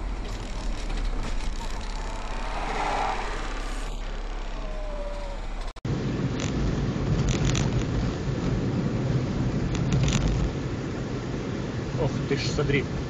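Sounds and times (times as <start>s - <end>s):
car road and engine noise: 0.0s - 13.0s
heavy low car engine rumble: 0.0s - 13.0s.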